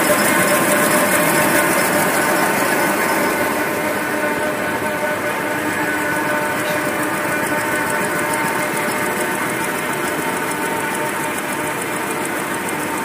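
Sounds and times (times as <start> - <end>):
fast regular machine ticking: 0.0 - 13.0
machine humming: 0.0 - 13.0.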